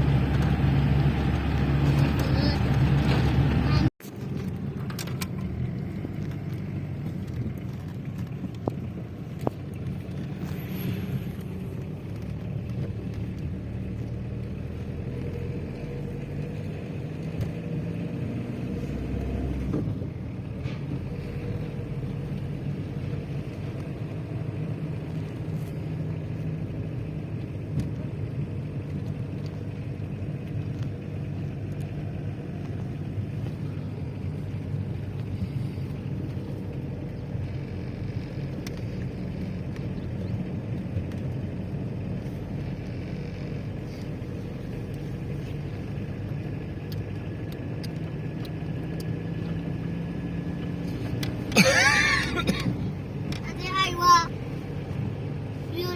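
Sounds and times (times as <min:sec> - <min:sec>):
car engine rumble: 0:00.0 - 0:55.9
road noise: 0:00.0 - 0:55.9.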